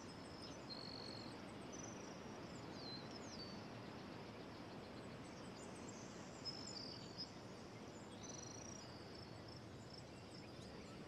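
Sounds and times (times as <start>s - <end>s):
soft steady hiss: 0.0s - 11.0s.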